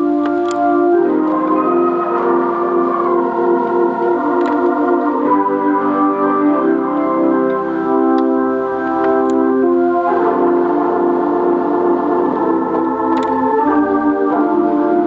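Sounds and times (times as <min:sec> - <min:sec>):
electric organ gospel chords: 0:00.0 - 0:15.0.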